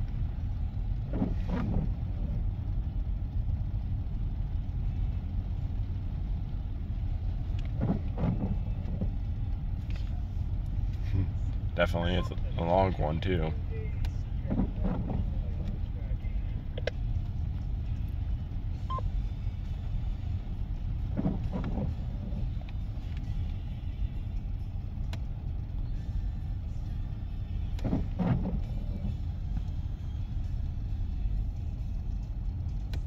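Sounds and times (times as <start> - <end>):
windshield wipers sweeping: 0.0 - 33.0.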